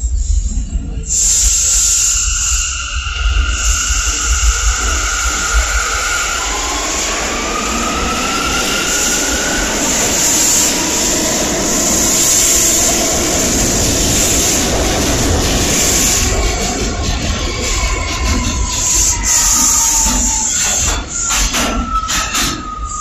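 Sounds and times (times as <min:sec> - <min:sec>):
subway train motor whine: 0:00.0 - 0:23.0
train wheels rumbling on rail: 0:00.0 - 0:23.0.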